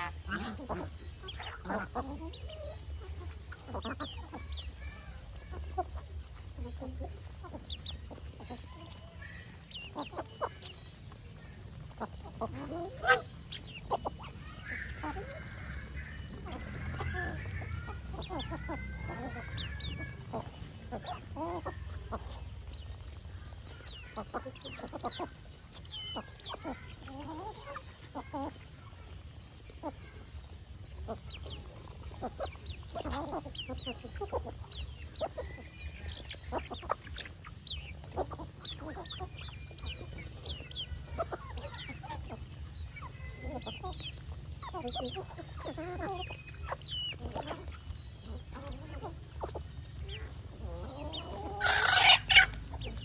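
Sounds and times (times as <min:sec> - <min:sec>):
geese ducks and chickens calling: 0:00.0 - 0:53.0.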